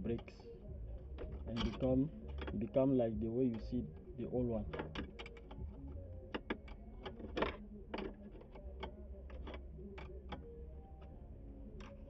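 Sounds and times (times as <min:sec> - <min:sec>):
ignition switch parts clicking: 0:00.0 - 0:12.0
steady low hum: 0:00.0 - 0:12.0.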